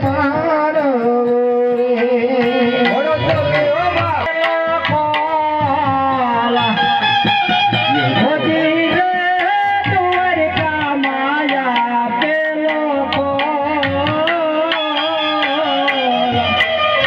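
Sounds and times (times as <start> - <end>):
steady drum beats: 0.0 - 17.0.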